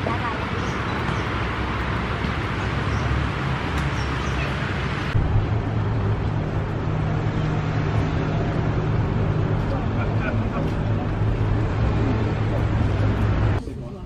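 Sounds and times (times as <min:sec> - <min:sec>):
cars passing close by: 0:00.0 - 0:13.6
road traffic hum: 0:00.0 - 0:14.0.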